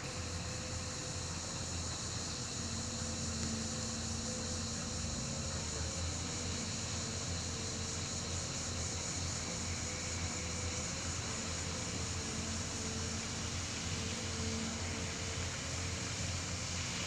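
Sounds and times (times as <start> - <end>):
constant hiss: 0.0 - 17.0
engine humming: 0.0 - 17.0
faint steady tones: 0.0 - 17.0.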